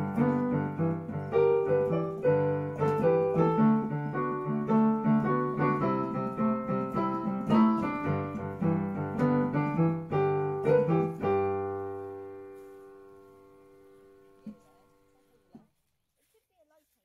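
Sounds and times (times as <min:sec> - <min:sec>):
piano music: 0:00.0 - 0:15.4.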